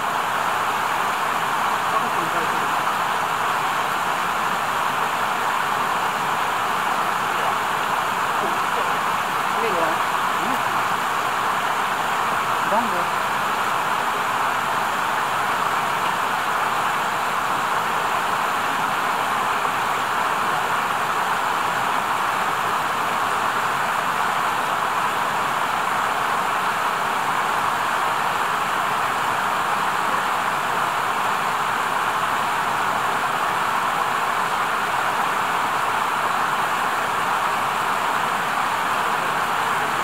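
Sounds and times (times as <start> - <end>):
stream running over rocks: 0.0 - 40.0.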